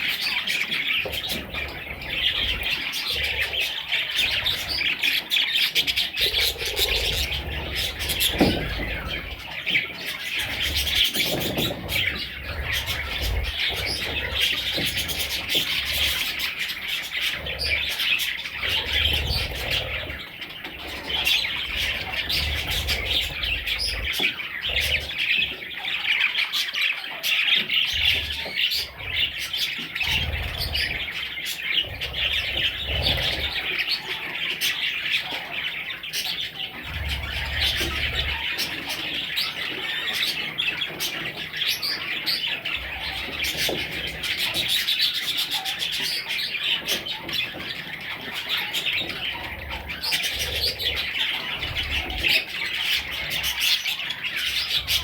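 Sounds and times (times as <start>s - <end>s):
budgerigars chattering and chirping: 0.0s - 55.0s.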